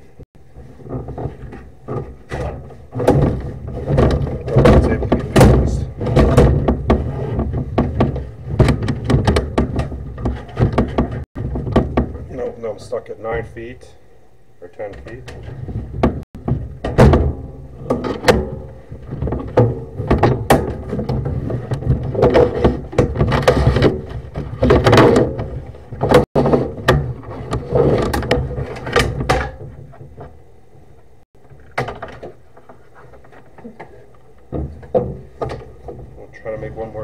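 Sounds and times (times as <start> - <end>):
cable knocks and clunks: 0.8 - 12.4, 14.8 - 36.9.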